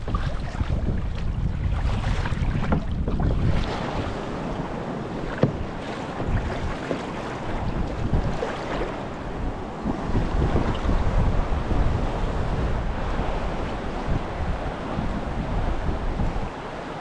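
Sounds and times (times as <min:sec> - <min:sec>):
water lapping and splashing: 0:00.0 - 0:17.0
wind buffeting microphone: 0:00.0 - 0:17.0.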